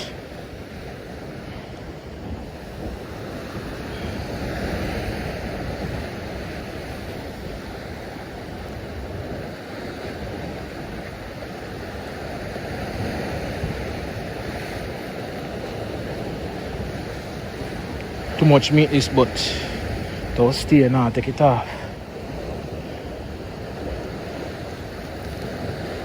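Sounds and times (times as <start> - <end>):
sea waves washing against rocks: 0.0 - 26.0
wind noise on microphone: 0.0 - 26.0.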